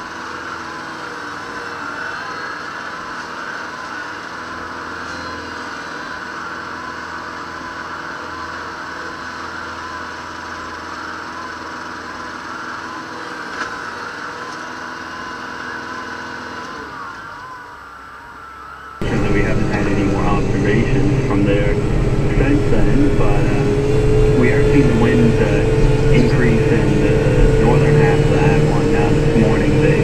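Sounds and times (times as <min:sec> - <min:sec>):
tractor diesel engine running: 0:00.0 - 0:30.0
wavering whine: 0:00.0 - 0:30.0.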